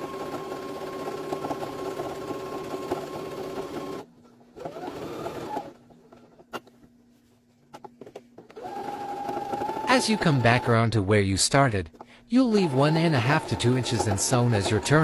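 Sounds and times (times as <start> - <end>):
sewing machine stitching: 0.0 - 6.7, 8.4 - 10.9, 11.9 - 15.0.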